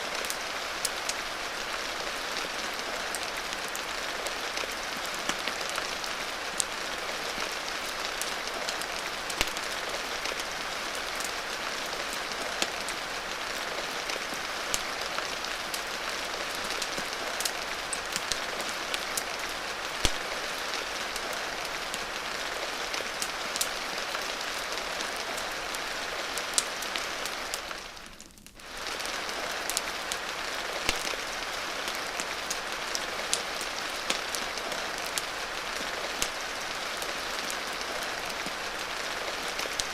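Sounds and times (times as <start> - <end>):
fire crackling: 0.0 - 39.9
rain hissing: 0.0 - 39.9.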